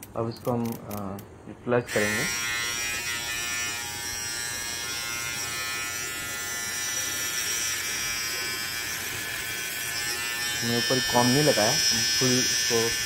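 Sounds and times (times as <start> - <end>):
beard trimmer buzzing: 1.9 - 13.0.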